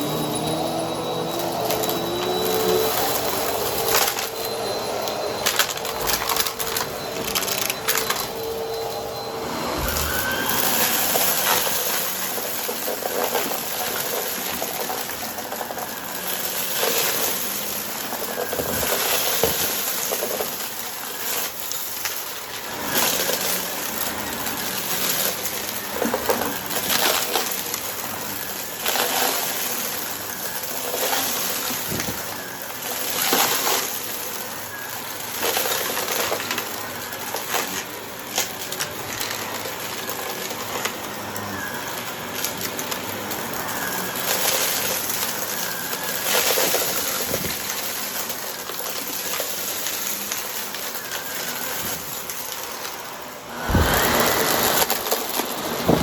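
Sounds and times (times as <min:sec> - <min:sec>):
debris crunching in vacuum: 0:00.0 - 0:56.0
vacuum cleaner motor hiss: 0:00.0 - 0:56.0.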